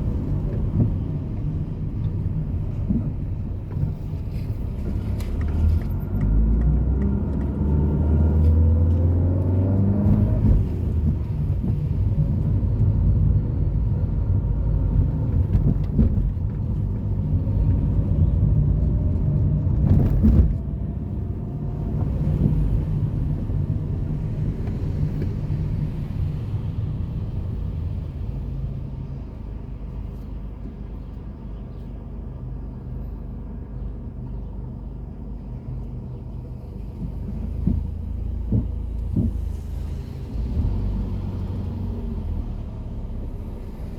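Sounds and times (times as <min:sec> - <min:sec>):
car engines rumbling: 0:00.0 - 0:43.9.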